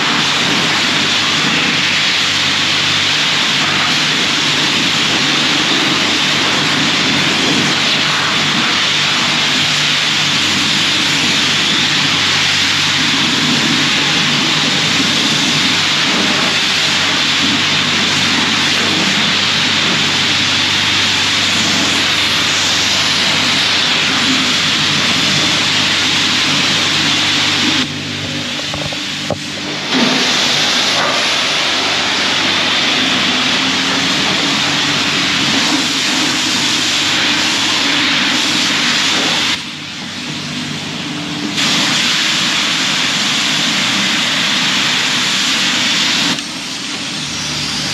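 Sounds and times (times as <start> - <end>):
pressure washer spray hiss: 0.0 - 40.8, 41.5 - 47.9
steady low hum: 0.0 - 47.9.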